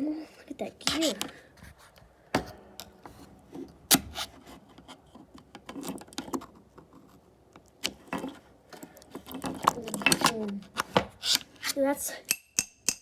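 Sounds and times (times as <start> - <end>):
scraping and rubbing of parts: 0.8 - 11.9.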